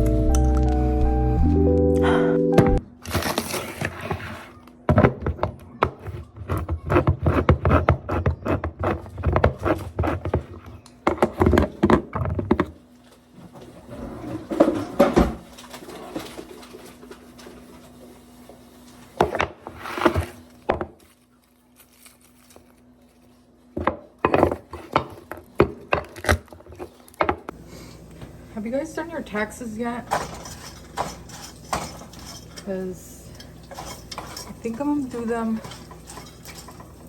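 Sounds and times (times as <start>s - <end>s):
knocks and clatter of kitchen work: 2.6s - 21.1s, 23.7s - 28.4s, 29.9s - 37.0s.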